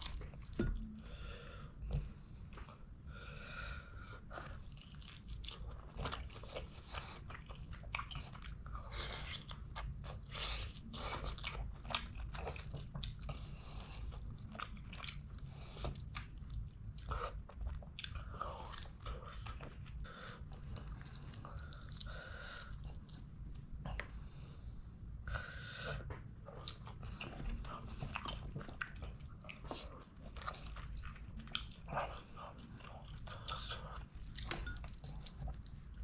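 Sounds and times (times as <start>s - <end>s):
person biting chewing and crunching: 0.0s - 0.6s, 4.4s - 23.8s, 26.4s - 36.0s.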